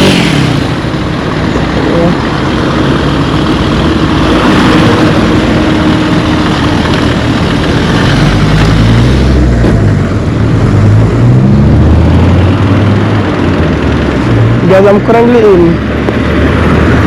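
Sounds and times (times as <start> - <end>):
heavy vehicle engine rumble: 0.0 - 17.0
vehicles passing on highway: 0.0 - 17.0.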